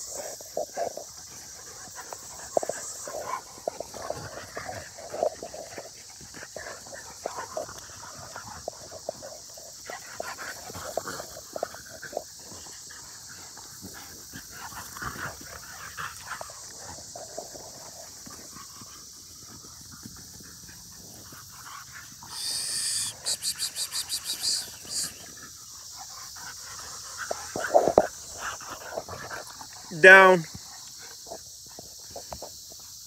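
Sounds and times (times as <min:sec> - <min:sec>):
dogs playing: 0:00.0 - 0:33.0
steady high hiss: 0:00.0 - 0:33.0.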